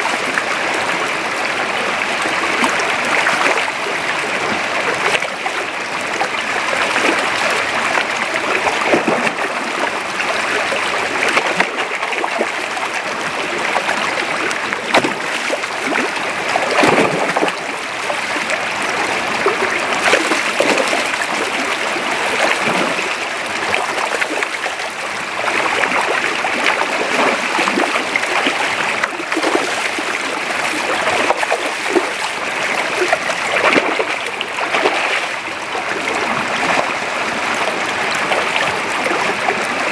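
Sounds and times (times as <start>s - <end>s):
creek water running: 0.0s - 39.9s
water splashes: 0.0s - 39.9s.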